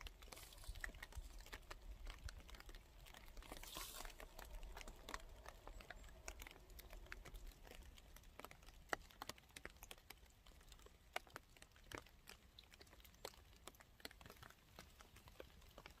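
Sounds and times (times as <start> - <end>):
light rain: 0.0 - 16.0
raindrops tapping: 0.0 - 16.0.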